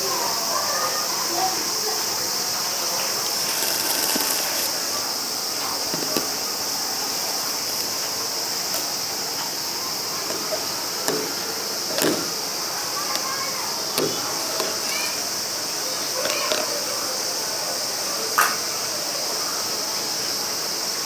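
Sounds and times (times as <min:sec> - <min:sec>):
distant murmur of voices: 0:00.0 - 0:21.0
high-pitched air hiss: 0:00.0 - 0:21.0.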